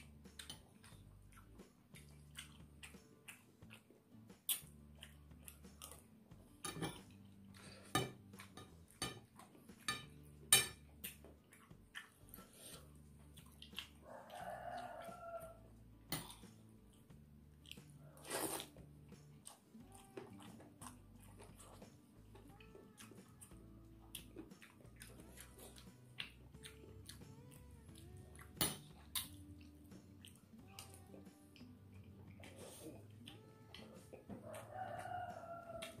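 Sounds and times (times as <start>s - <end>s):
chewing: 0.2s - 9.9s, 10.8s - 36.0s.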